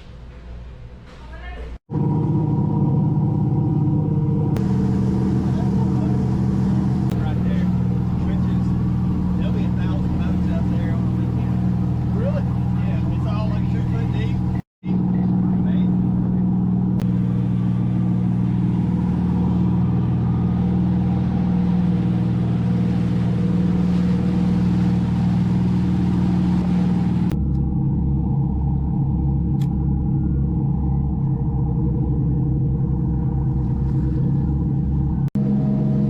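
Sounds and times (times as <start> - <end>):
boat engine drone: 1.8 - 36.0.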